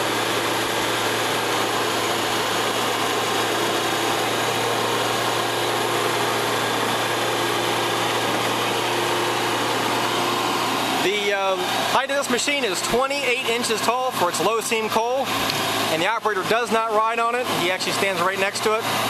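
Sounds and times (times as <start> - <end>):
roof bolter blower humming: 0.0 - 19.0.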